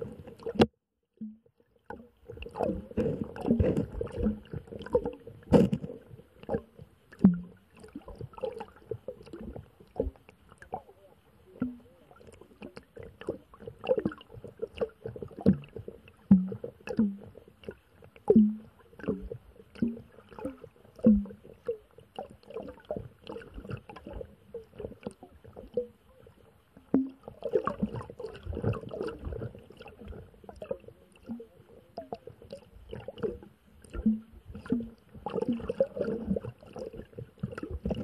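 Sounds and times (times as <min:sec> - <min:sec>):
underwater clicks and knocks: 0:00.0 - 0:10.9, 0:11.5 - 0:26.0, 0:26.8 - 0:38.0
low gurgling blips: 0:00.0 - 0:38.0.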